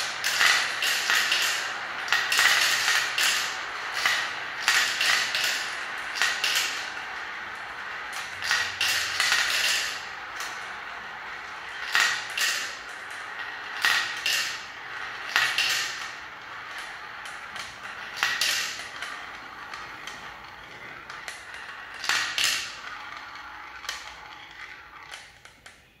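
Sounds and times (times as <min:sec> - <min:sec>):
plastic balls rattling in marble run: 0:00.0 - 0:26.0.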